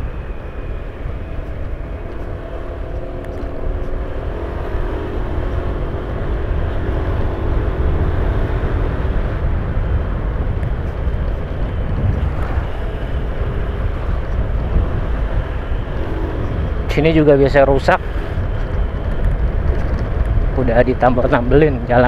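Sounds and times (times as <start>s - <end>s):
road and wind noise: 0.0s - 22.0s
vehicle engine running: 0.0s - 22.0s.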